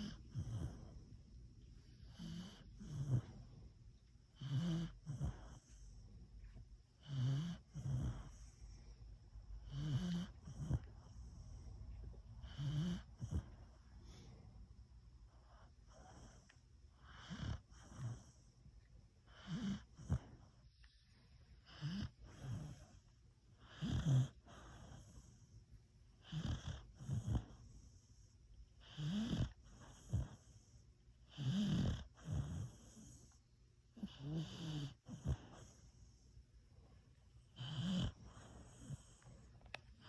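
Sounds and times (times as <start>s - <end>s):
dog snoring: 0.0s - 1.2s, 1.9s - 8.9s, 9.5s - 14.4s, 15.3s - 18.5s, 19.2s - 21.0s, 21.6s - 25.6s, 26.2s - 36.4s, 37.4s - 40.0s.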